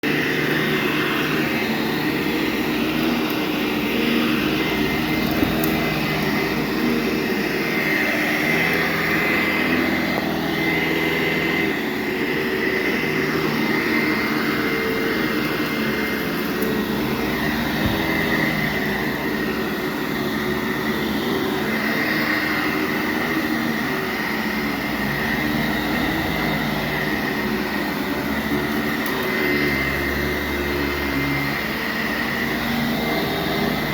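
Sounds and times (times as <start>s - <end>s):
vacuum cleaner on carpet: 0.0s - 33.9s.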